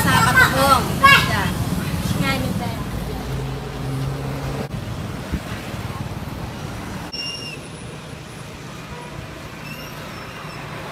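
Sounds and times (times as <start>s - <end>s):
road traffic: 0.0s - 10.9s.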